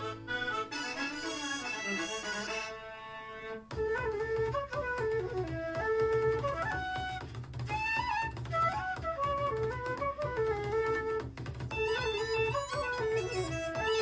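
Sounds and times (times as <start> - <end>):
instrumental music from speaker: 0.0 - 14.0.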